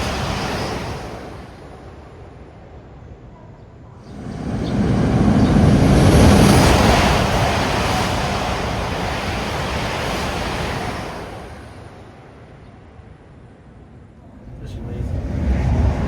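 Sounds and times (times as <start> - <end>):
high-speed train rushing roar: 0.0 - 16.0.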